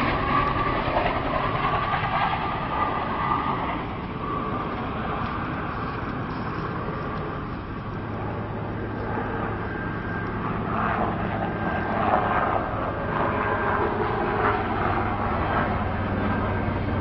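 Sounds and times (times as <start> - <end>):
airplane flying low overhead: 0.0 - 17.0.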